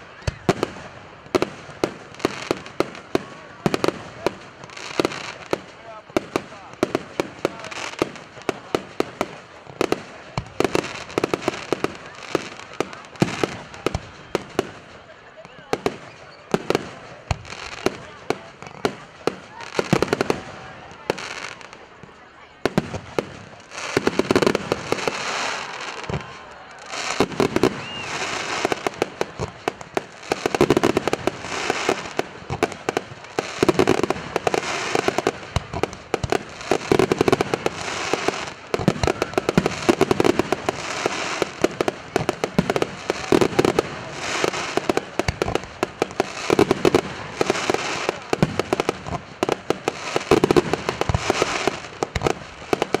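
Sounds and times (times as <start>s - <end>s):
firework bangs: 0.0s - 53.0s
firework crackling: 0.0s - 53.0s.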